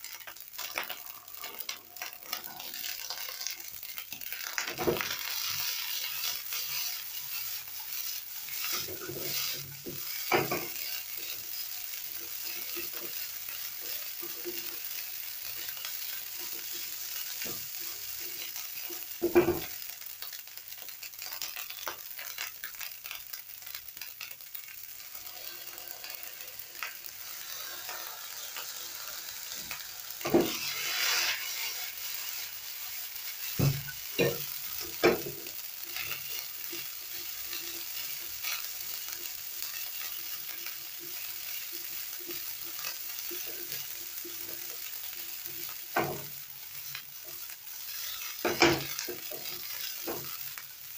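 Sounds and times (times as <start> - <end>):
rice and vegetables sizzling in pan: 0.0 - 50.9.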